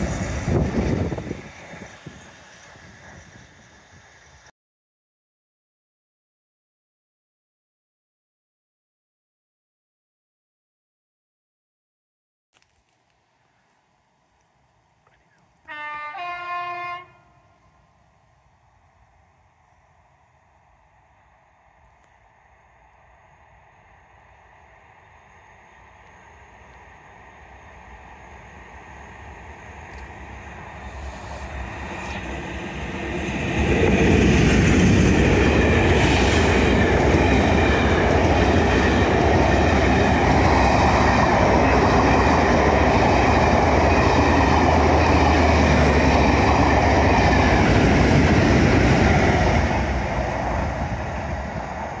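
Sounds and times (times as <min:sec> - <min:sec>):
diesel train passing: 0:00.0 - 0:04.5, 0:14.0 - 0:52.0.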